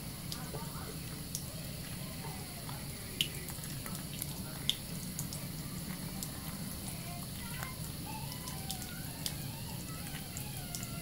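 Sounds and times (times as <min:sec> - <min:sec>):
running tap water: 0:00.0 - 0:11.0
soap lather squelching: 0:00.0 - 0:11.0.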